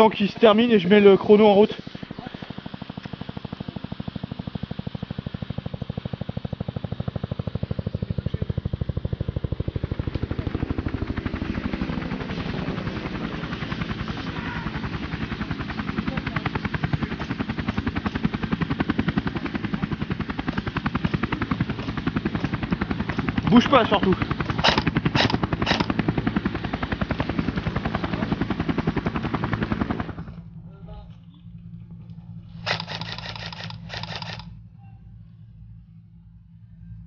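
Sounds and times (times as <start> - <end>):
helicopter rotor chopping: 0.0 - 34.8.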